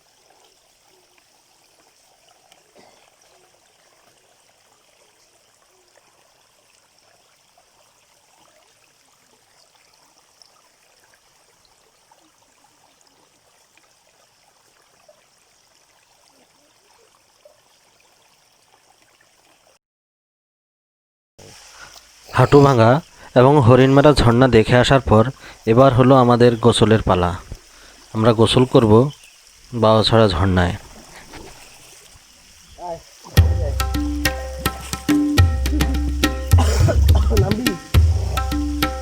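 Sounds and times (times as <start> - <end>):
faint running stream water: 0.0 - 19.8, 21.4 - 39.0.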